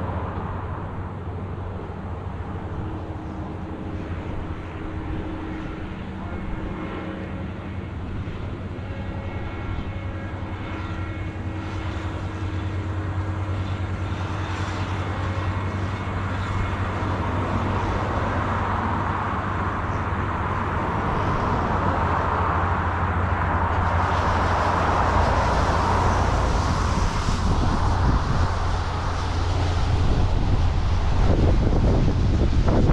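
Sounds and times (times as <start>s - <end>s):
harvest machinery engine humming: 0.0s - 32.9s
rushing noise: 0.0s - 32.9s.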